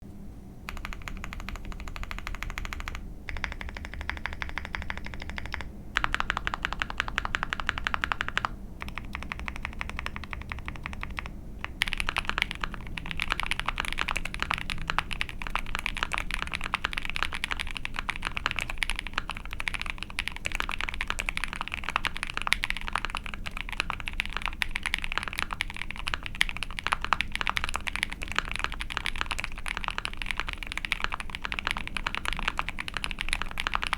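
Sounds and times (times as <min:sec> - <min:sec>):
mechanical keyboard typing: 0:00.7 - 0:33.9.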